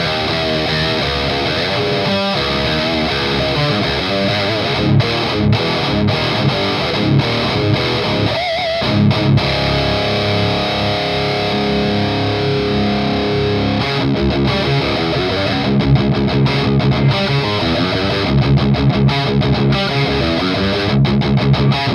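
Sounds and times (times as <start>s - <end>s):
distorted electric guitar: 0.0s - 21.9s.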